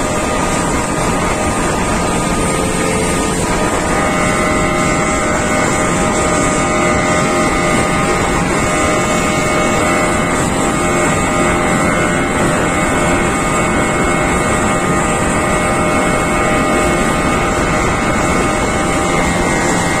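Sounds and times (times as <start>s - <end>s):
outboard motor droning: 0.0s - 20.0s
water rushing: 0.0s - 20.0s
wind buffeting microphone: 0.0s - 20.0s.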